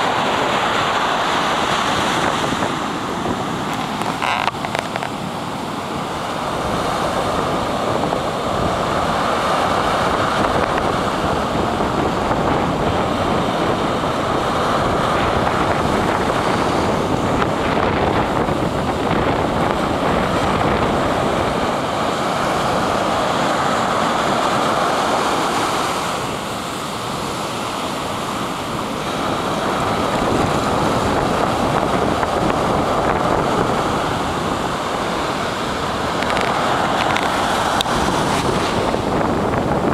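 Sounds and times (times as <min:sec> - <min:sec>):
waves breaking on sand: 0:00.0 - 0:39.9
wind buffeting microphone: 0:00.0 - 0:39.9.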